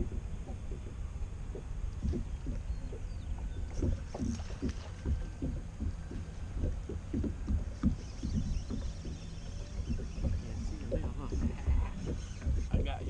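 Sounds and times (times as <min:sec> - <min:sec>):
water slapping against kayak: 0:00.0 - 0:13.0
wind rumble on microphone: 0:00.0 - 0:13.0.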